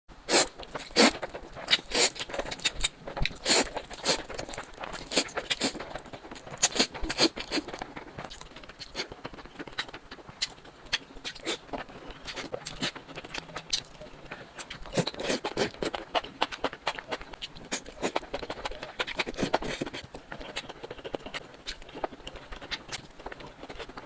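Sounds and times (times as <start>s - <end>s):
crunchy eating and chewing: 0.2s - 24.0s.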